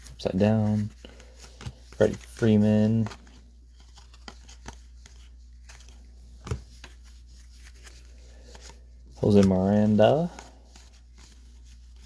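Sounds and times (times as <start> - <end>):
trading cards clicking and rustling: 0.0 - 12.0.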